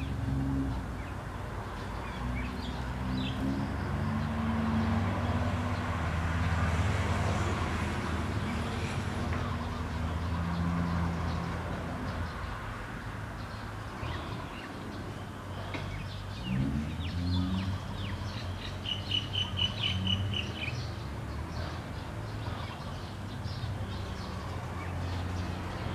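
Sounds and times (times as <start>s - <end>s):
small birds chirping: 0.0s - 5.9s, 8.0s - 25.9s.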